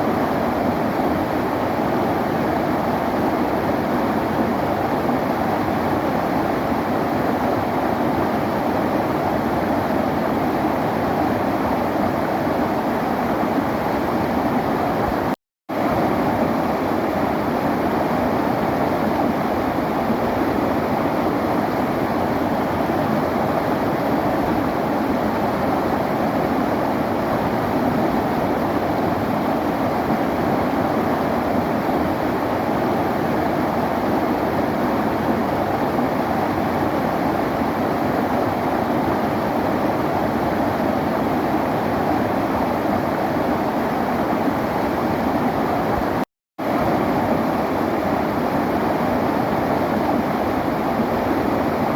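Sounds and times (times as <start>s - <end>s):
river flowing: 0.3s - 51.9s.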